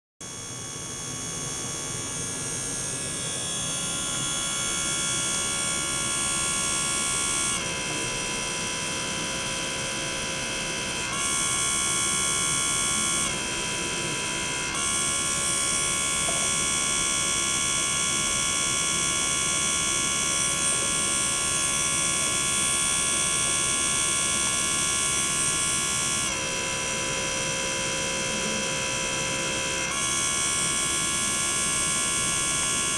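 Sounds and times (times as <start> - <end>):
electric pump motor whine: 0.2 - 32.9.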